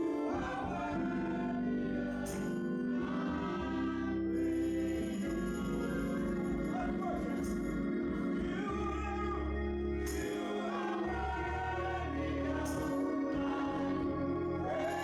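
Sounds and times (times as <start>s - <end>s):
church choir singing gospel: 0.0s - 15.0s
instrumental accompaniment: 0.0s - 15.0s.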